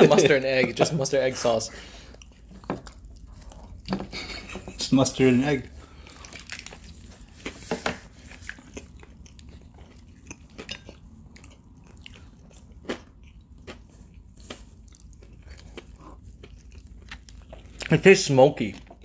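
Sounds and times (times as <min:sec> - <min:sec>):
biting and chewing food: 0:00.5 - 0:19.0.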